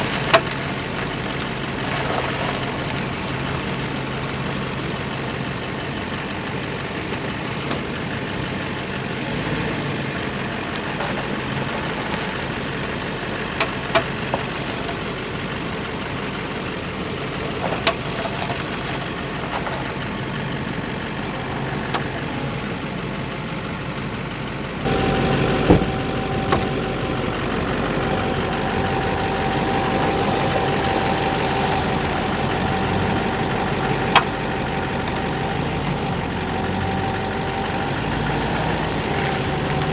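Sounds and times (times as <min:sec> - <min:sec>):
diesel engine idling: 0:00.0 - 0:39.9
steady whine: 0:00.0 - 0:39.9.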